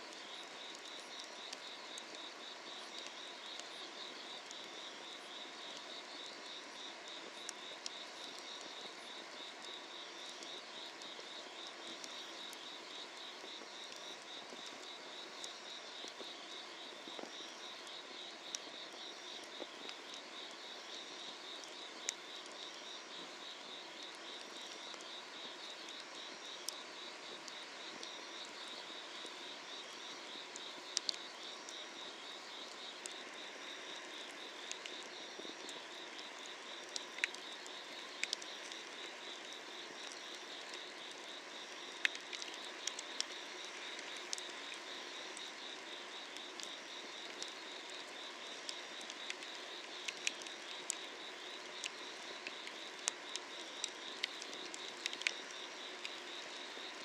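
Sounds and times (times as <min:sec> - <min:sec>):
insects chirping in a trill: 0:00.0 - 0:57.0
firewood crackling and popping: 0:00.2 - 0:08.8, 0:09.4 - 0:56.7.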